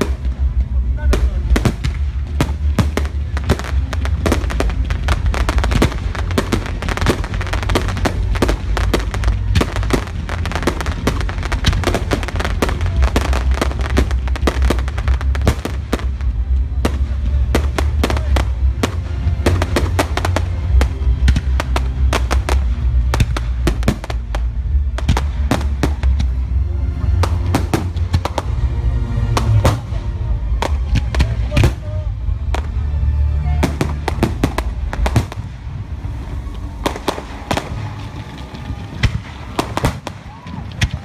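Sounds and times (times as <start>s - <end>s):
fireworks bangs and crackles: 0.0s - 32.9s, 33.5s - 41.0s
music playing: 0.0s - 41.0s.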